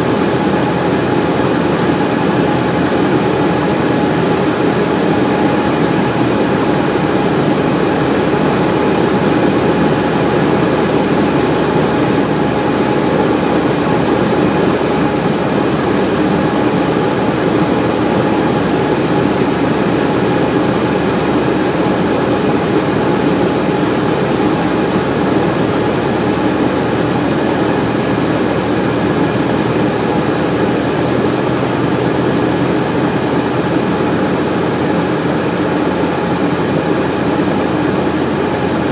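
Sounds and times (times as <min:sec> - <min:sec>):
aircraft piston engine and propeller: 0:00.0 - 0:38.9.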